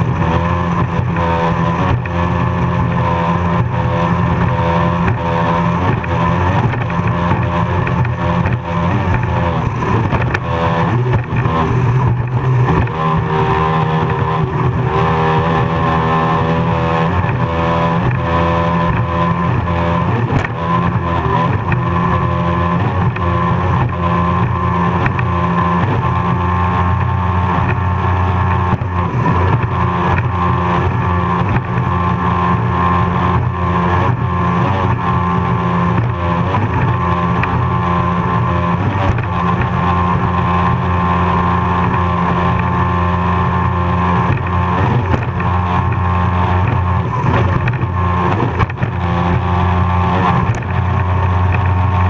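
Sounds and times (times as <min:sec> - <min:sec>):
powerboat engine running hard: 0:00.0 - 0:52.0.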